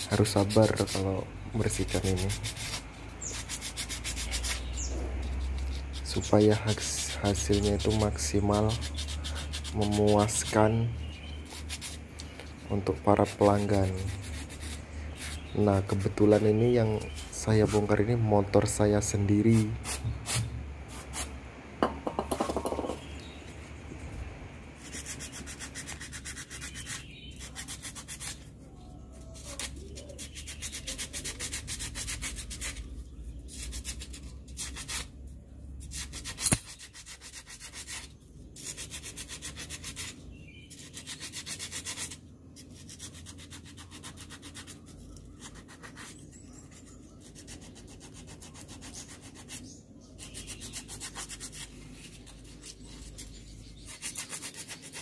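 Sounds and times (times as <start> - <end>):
sandpaper rubbing on metal: 0.0 - 18.2, 19.3 - 21.3, 24.8 - 28.5, 29.2 - 35.1, 35.8 - 55.0.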